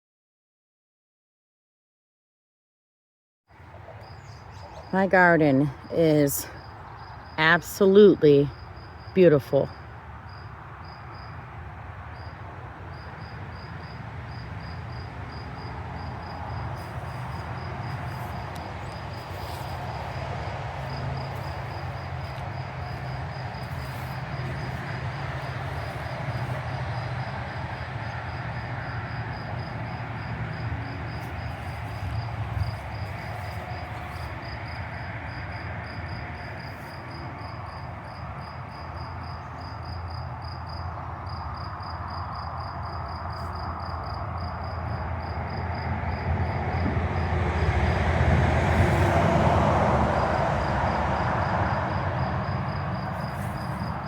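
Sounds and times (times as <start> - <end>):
insects chirping: 3.6 - 54.0.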